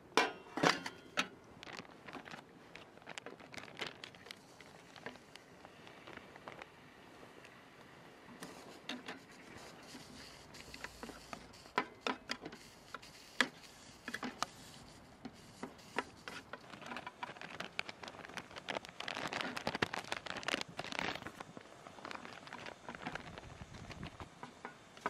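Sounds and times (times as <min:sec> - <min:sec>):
rustle and crackle of food tipped in: 0:00.6 - 0:07.6, 0:08.4 - 0:25.0.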